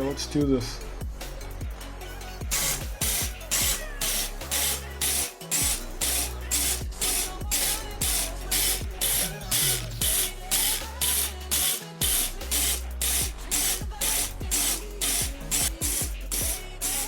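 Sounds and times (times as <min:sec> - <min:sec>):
deep sliding bass line: 0:00.0 - 0:17.0
hi-hat or clap hits: 0:02.5 - 0:17.0.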